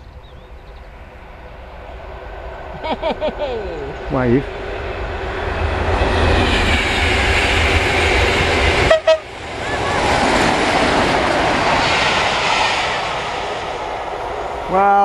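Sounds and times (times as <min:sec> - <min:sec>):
deep engine rumble: 0:00.0 - 0:14.8
rush of passing train coaches: 0:00.0 - 0:15.0.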